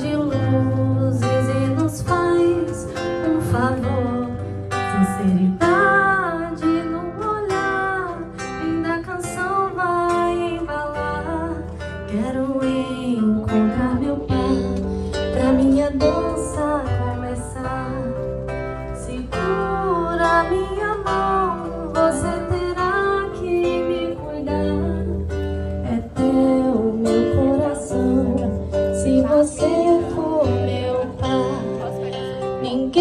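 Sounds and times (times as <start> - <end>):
acoustic guitar song: 0.0 - 33.0.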